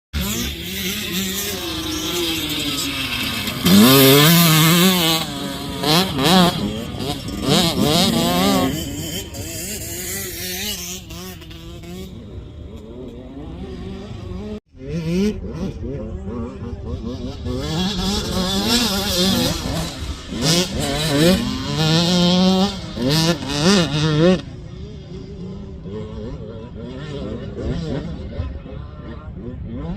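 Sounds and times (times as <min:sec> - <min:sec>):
motocross bike engine revving: 0:00.2 - 0:29.9.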